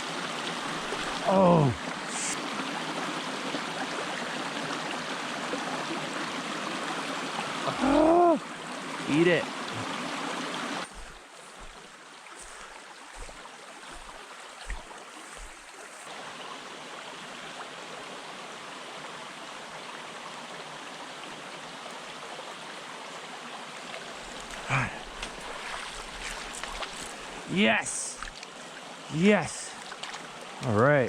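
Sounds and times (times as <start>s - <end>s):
stream flowing over rocks: 0.0s - 31.0s.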